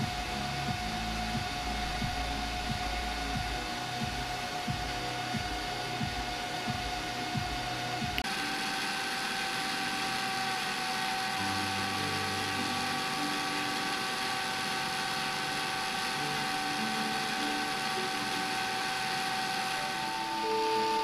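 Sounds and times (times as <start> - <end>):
cordless drill whining: 0.0 - 21.0.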